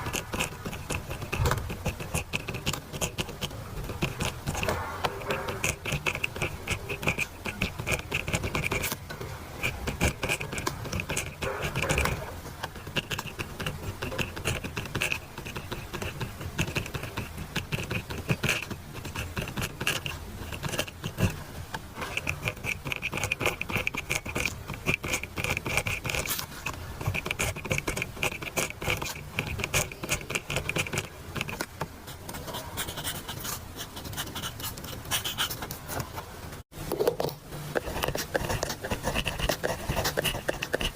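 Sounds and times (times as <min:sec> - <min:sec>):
pen scratching on paper: 0:00.0 - 0:36.2, 0:37.7 - 0:40.9.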